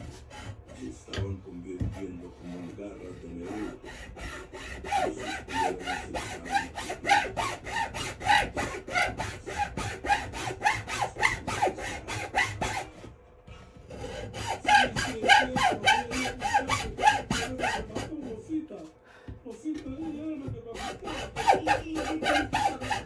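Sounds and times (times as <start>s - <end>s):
hand tool rasping on wood: 0.0s - 18.5s, 19.8s - 23.0s.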